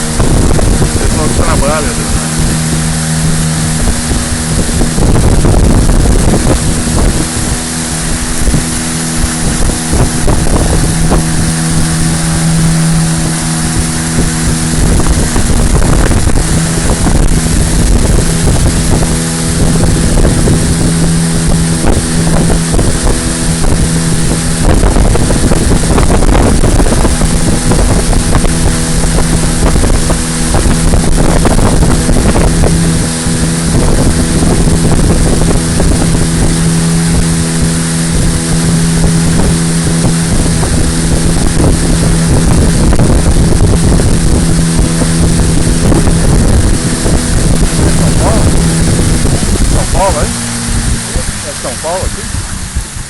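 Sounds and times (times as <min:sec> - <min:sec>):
motorboat engine running: 0:00.0 - 0:53.0
wind buffeting microphone: 0:00.0 - 0:53.0.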